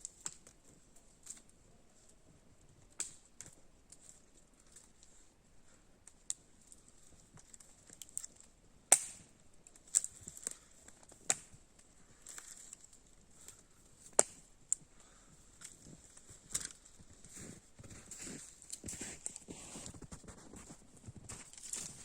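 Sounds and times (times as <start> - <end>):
firewood cracking and snapping: 0.0 - 1.5, 2.8 - 5.2, 6.0 - 22.0.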